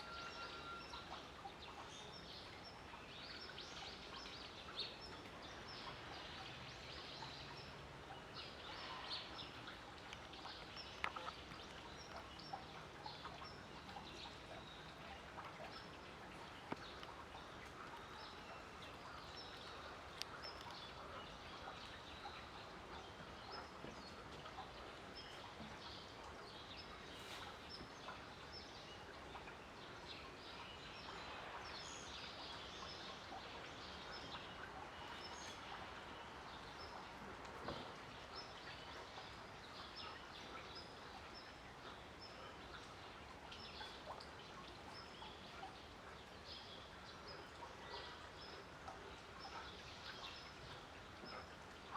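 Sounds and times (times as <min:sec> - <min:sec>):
faint outdoor background hiss: 0:00.0 - 0:51.9.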